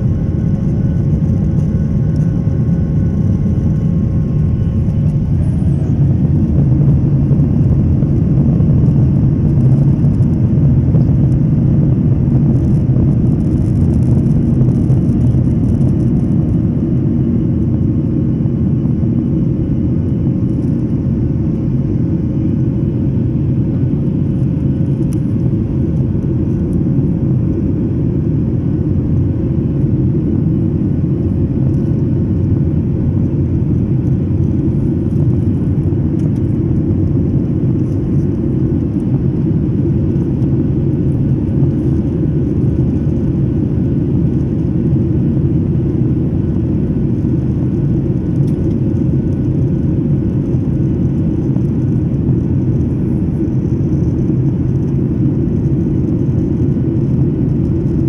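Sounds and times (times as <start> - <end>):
faint steady hum: 0.0 - 58.0
jet engines roaring in cabin: 0.0 - 58.0.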